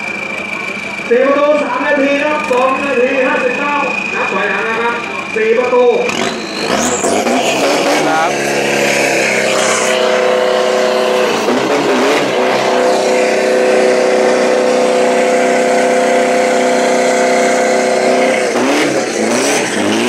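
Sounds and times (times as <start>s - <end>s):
diesel engine at high revs: 0.0s - 20.0s.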